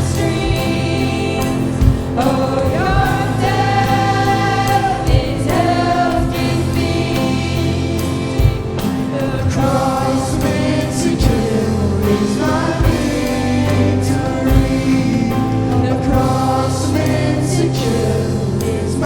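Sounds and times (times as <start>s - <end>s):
deep drum hits: 0.0s - 18.1s
worship band and singers: 0.0s - 19.0s.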